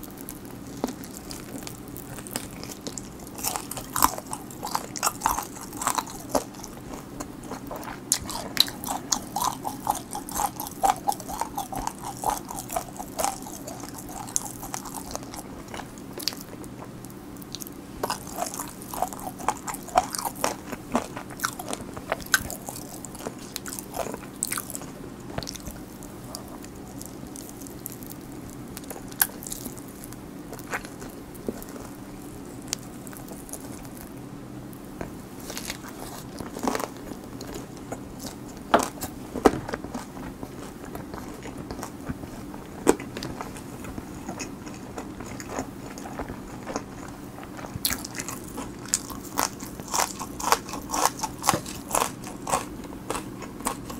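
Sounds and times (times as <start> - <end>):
crunching fried chicken: 0.0 - 53.9.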